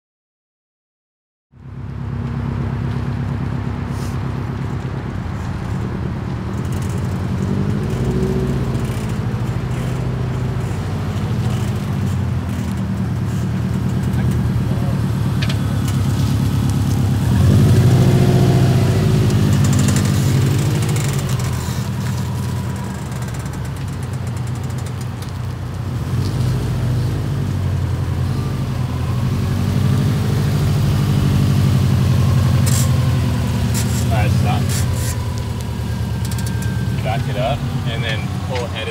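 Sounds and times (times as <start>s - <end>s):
car engine running: 1.6s - 38.9s
wheel bearing creaking and screeching: 2.9s - 27.3s, 30.7s - 38.9s.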